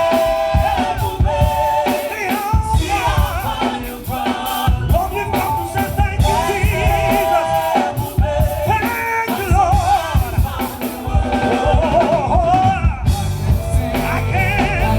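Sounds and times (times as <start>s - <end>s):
person singing with vibrato: 0.0s - 14.9s
steady drum beat: 0.0s - 14.9s.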